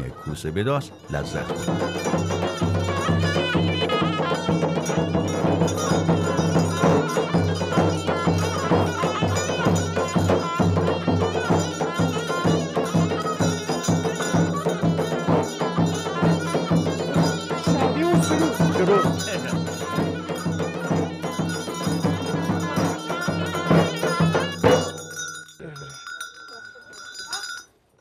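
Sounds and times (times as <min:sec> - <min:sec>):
quick steady drum beat: 0:01.1 - 0:25.4.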